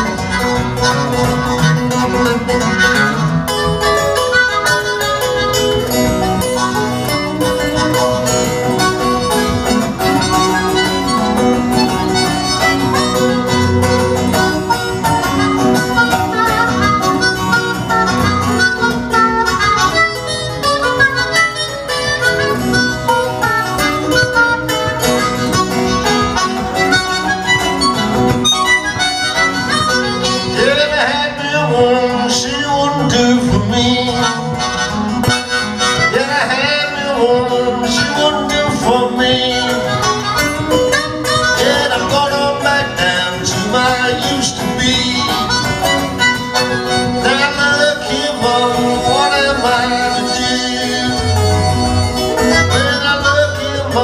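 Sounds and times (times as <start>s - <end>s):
acoustic guitar accompaniment: 0.0s - 54.0s
harmonica bending notes: 0.0s - 54.0s.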